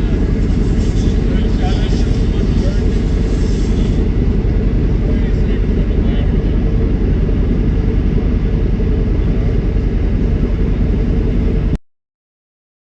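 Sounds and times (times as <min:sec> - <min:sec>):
cleaning equipment low rumble: 0:00.0 - 0:11.8.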